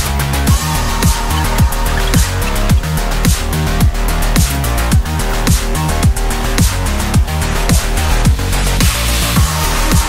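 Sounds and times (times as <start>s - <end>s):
sustained bass line: 0.0s - 10.0s
electronic music: 0.1s - 10.0s.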